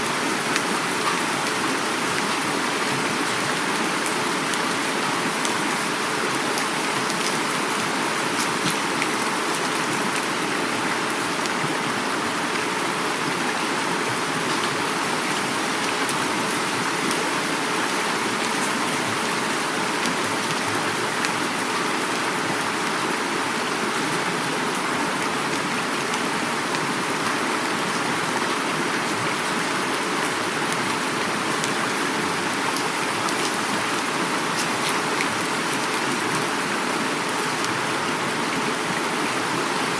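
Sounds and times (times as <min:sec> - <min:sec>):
flowing river: 0:00.0 - 0:39.9
heavy rain: 0:00.0 - 0:39.9.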